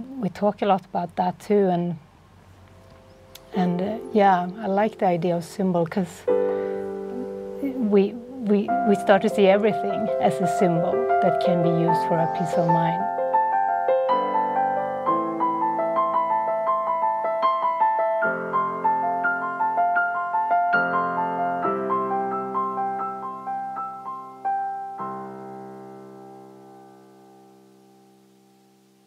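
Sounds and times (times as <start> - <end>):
piano music: 1.8 - 29.0.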